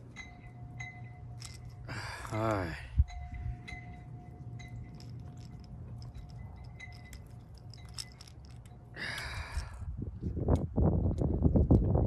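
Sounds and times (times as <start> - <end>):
wind rumble on microphone: 0.8 - 12.0.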